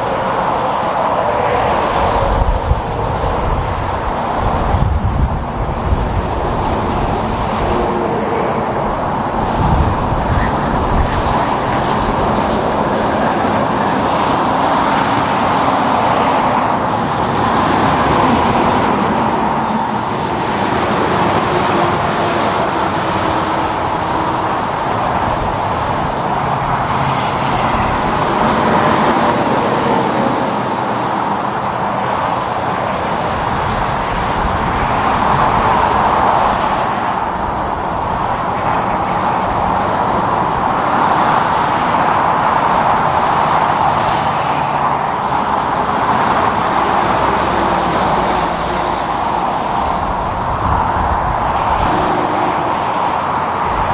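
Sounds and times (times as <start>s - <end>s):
road traffic passing: 0.0s - 53.9s.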